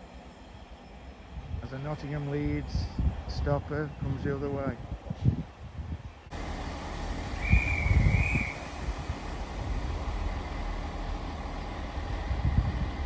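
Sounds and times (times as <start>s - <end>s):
diesel trains rumbling: 0.0s - 13.0s.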